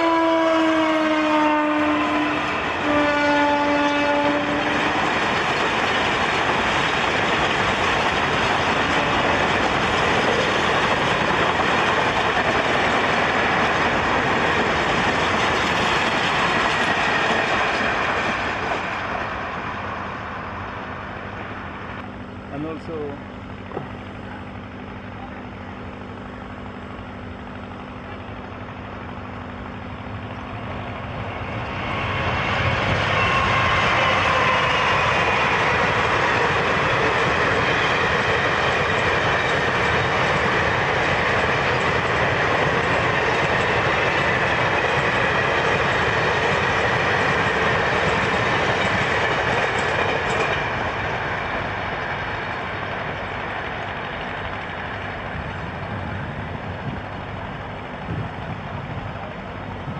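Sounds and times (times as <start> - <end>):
passenger train passing: 0.0 - 59.9.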